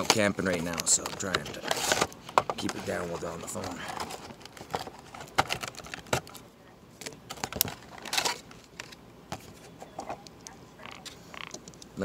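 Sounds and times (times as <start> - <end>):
cardboard and plastic rustling: 0.0 - 10.2.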